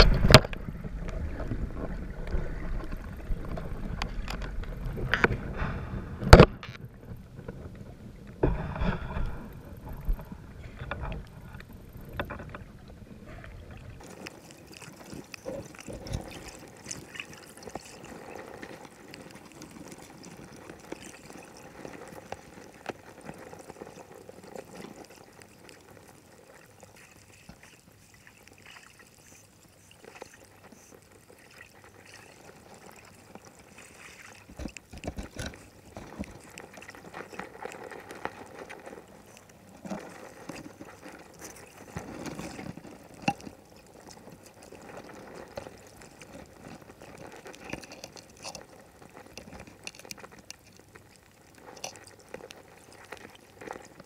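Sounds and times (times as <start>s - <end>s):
underwater water movement: 0.0s - 54.0s.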